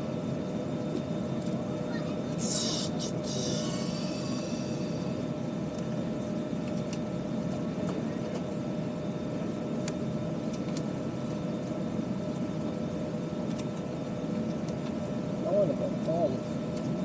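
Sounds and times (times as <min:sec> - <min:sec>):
air-conditioning airflow: 0:00.0 - 0:17.0
constant hum: 0:00.0 - 0:17.0.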